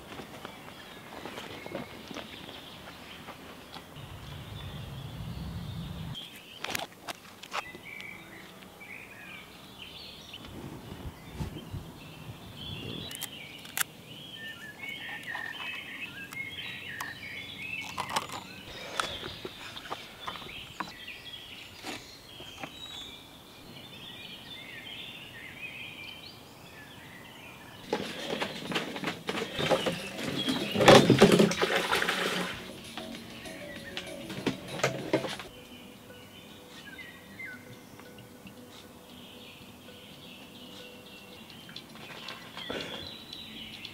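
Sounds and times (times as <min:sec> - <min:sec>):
birds chirping and singing: 0:07.5 - 0:43.9.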